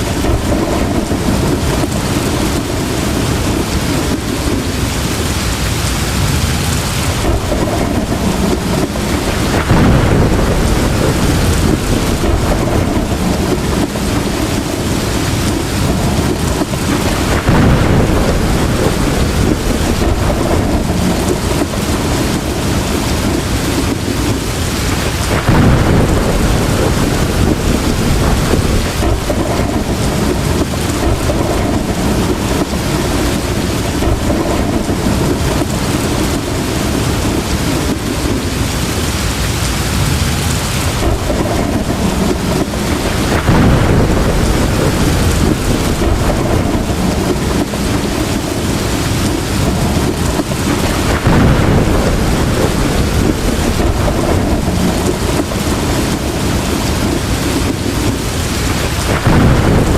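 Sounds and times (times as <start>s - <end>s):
heavy rain pouring: 0.0s - 59.9s
rolling thunder: 0.0s - 59.9s.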